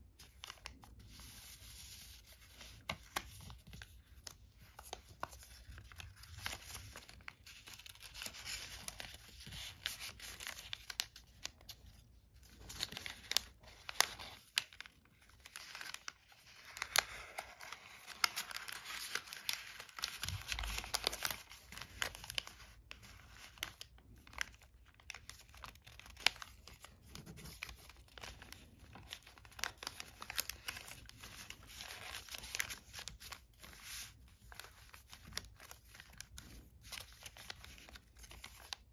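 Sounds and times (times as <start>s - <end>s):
paper rustling and crinkling: 0.1s - 38.9s.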